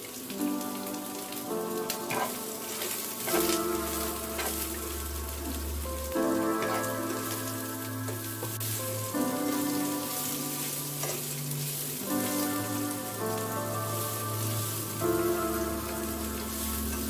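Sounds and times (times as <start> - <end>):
soft background music: 0.0 - 17.0
vegetables sizzling in oil: 0.0 - 17.0.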